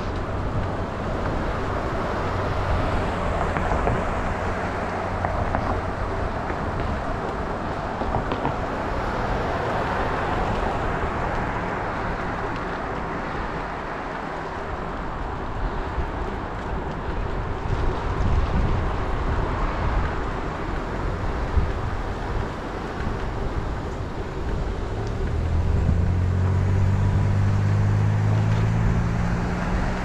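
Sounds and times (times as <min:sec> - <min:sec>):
bicycle road noise on wet street: 0:00.0 - 0:30.0
wind rush on microphone: 0:00.0 - 0:30.0.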